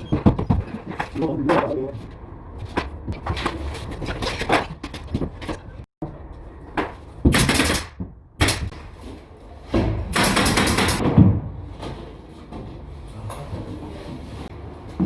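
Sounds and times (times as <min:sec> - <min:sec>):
carpentry knocks and scraping: 0:00.0 - 0:15.0.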